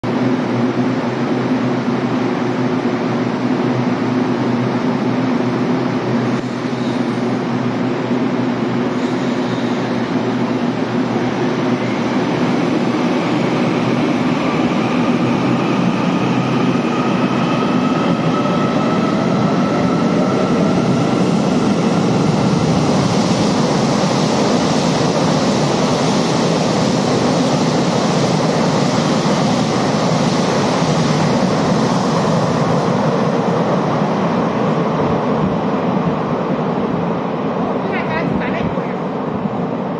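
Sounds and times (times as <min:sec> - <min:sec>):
train rushing through station: 0:00.0 - 0:39.9.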